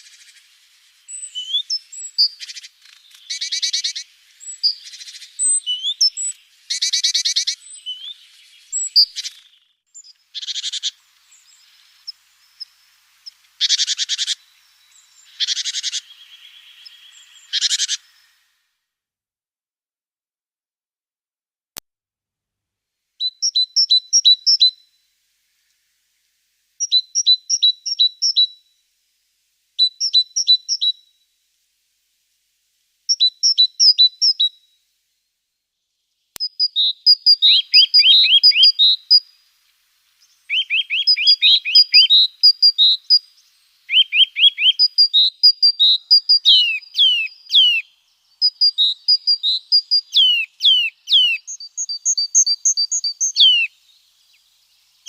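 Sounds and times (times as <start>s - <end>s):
songbirds singing: 0.0s - 18.6s, 23.2s - 28.6s, 29.8s - 31.1s, 33.1s - 34.6s, 35.8s - 55.0s.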